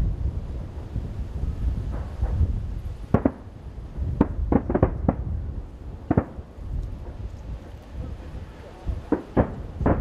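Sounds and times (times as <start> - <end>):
low rumble: 0.0 - 10.0
firework shells bursting: 1.8 - 10.0.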